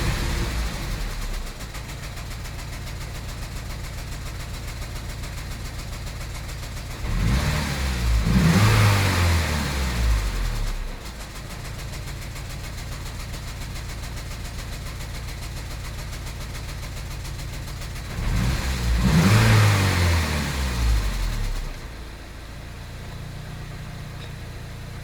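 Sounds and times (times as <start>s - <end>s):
vehicle engine idling and revving: 0.0s - 25.0s.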